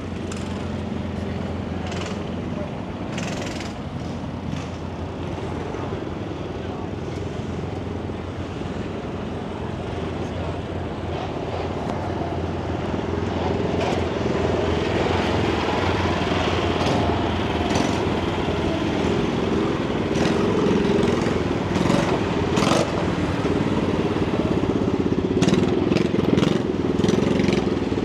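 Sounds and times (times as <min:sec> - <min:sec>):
engine rough pulsing rumble: 0:00.0 - 0:28.0.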